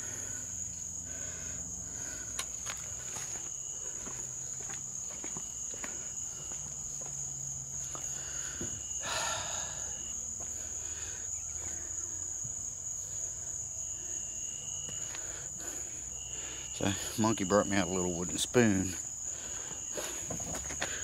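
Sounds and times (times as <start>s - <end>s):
night insects trilling: 0.0s - 21.0s.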